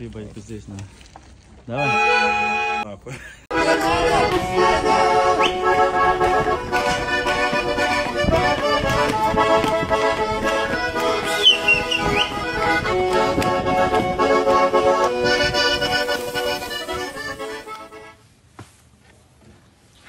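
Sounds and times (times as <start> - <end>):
accordion chords: 1.7 - 18.3.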